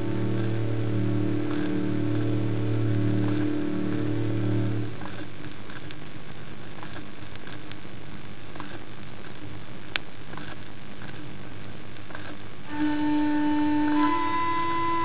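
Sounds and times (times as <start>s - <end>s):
vinyl crackles: 0.0s - 15.0s
vinyl record hiss: 0.0s - 15.0s.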